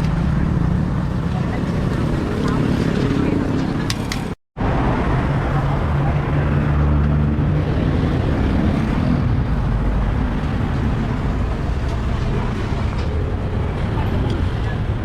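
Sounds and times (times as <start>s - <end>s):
street traffic din: 0.0s - 15.0s
vehicle engines running: 0.0s - 15.0s.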